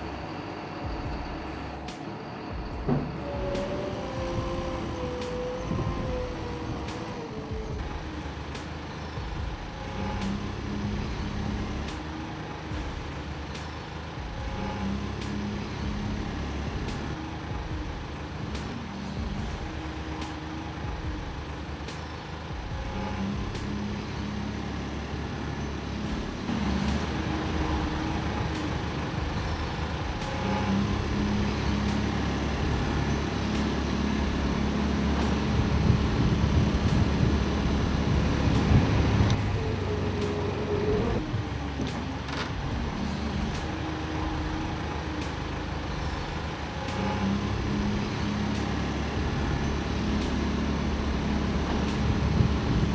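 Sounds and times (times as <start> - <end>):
heavy engine running: 0.0 - 52.9
heavy machinery low rumble: 0.0 - 52.9.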